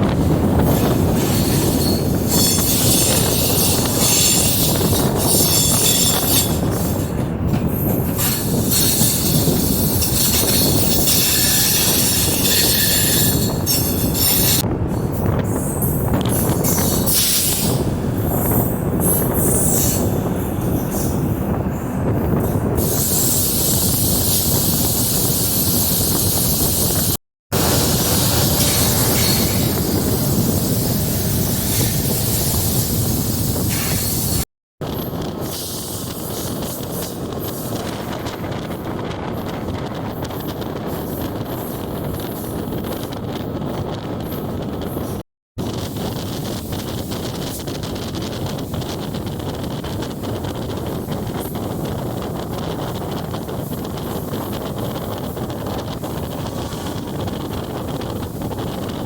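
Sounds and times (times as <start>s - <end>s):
train wheels on rails: 0.0s - 59.0s
wind on microphone: 0.0s - 59.0s.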